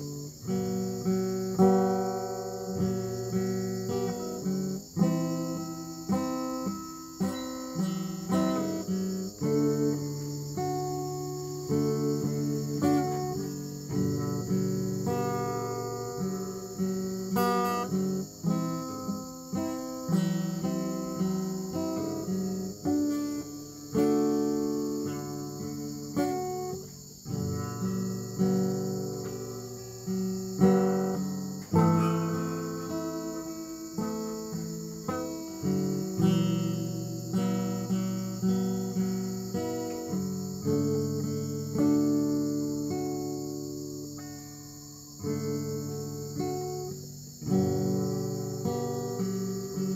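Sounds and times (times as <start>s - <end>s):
plucked guitar-like melody: 0.0s - 49.9s
steady high-pitched hiss: 0.0s - 49.9s.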